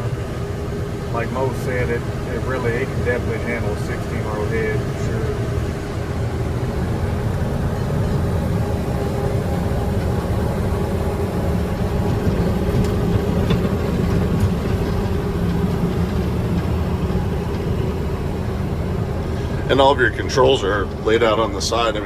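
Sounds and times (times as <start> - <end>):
combine harvester drone in cab: 0.0 - 22.0.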